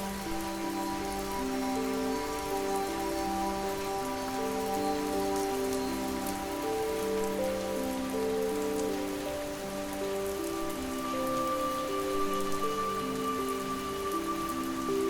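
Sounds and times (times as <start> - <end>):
gentle rain: 0.0 - 15.0
soft sleep music: 0.0 - 15.0.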